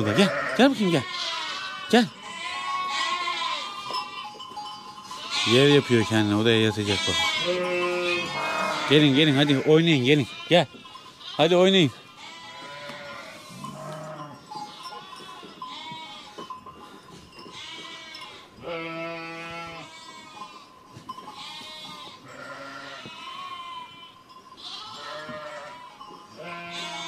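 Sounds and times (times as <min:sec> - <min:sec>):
lambs bleating: 0:00.0 - 0:04.4, 0:05.0 - 0:16.6, 0:17.5 - 0:20.7, 0:21.3 - 0:27.0.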